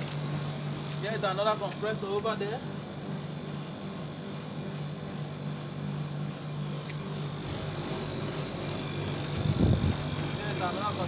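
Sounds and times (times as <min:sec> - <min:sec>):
refrigeration compressors humming: 0:00.0 - 0:11.0.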